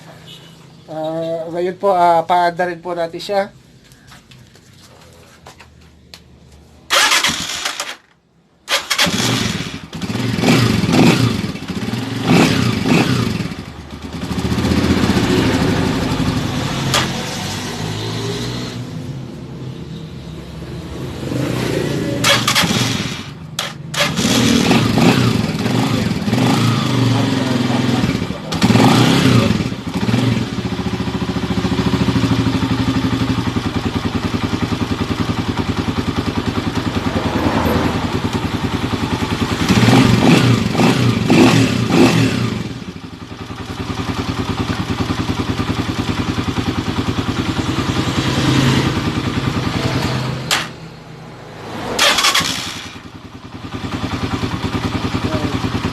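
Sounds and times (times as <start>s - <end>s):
motorcycle engine idling and revving: 5.2s - 55.9s.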